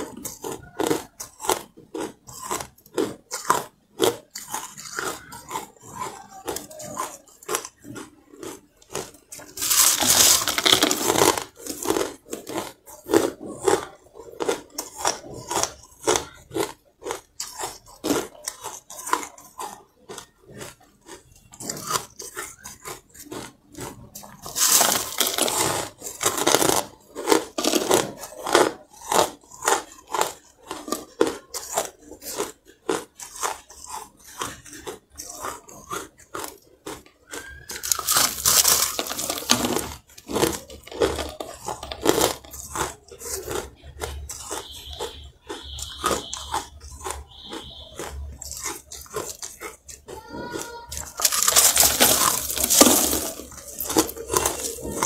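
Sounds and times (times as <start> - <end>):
ice being bitten and chewed: 0.0 - 55.0.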